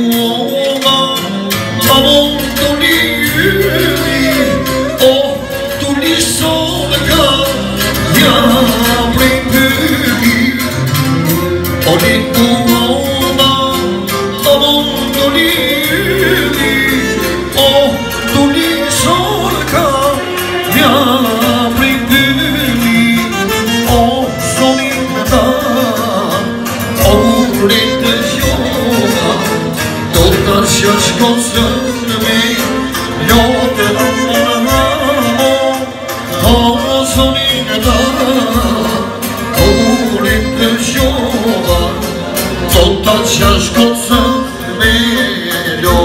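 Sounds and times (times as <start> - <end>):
man singing through pa: 0.0 - 46.0
steady beat: 1.6 - 46.0
clarinet: 2.4 - 43.4.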